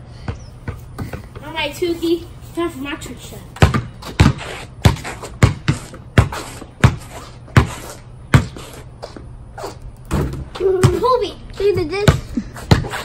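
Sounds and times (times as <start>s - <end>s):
basketball bouncing on concrete: 0.2s - 1.6s, 3.5s - 13.0s.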